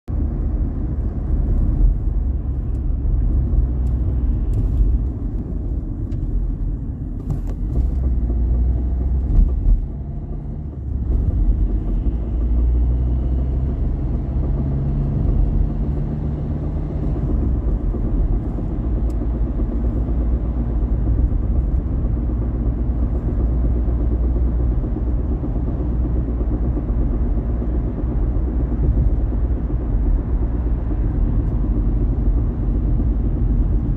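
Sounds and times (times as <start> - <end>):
car road and engine rumble: 0.0 - 33.9.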